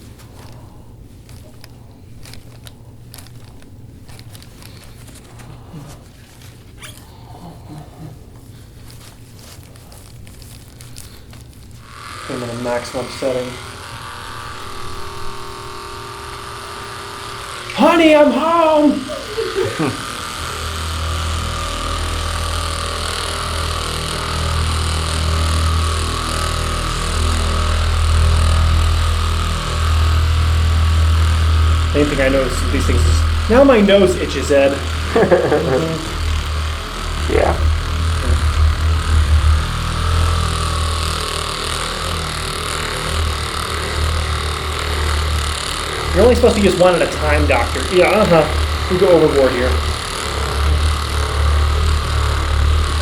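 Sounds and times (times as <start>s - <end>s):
electric massager buzzing: 0.0s - 53.0s
high motor whine: 0.0s - 53.0s.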